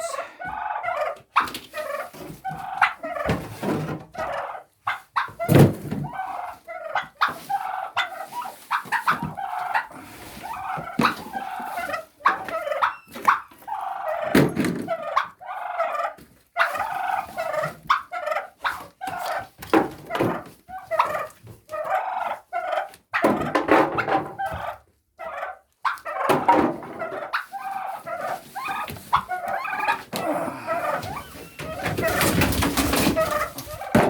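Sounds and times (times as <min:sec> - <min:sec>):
young turkeys calling: 0:00.0 - 0:34.0.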